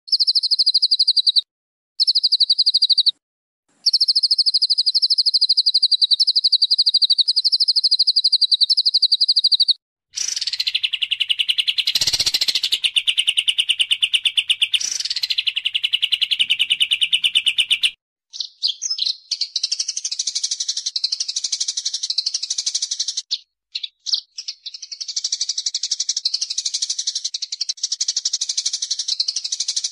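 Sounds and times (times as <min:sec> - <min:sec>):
songbird trilling: 0:00.1 - 0:01.4, 0:02.0 - 0:03.2, 0:03.8 - 0:29.9
bird chattering song: 0:00.1 - 0:03.2, 0:03.8 - 0:29.9.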